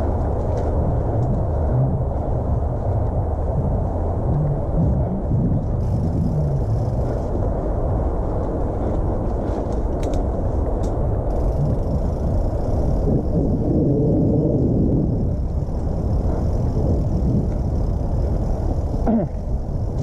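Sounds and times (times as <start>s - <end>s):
bike tyres rumbling on dirt: 0.0s - 20.0s
wind buffeting microphone: 0.0s - 20.0s.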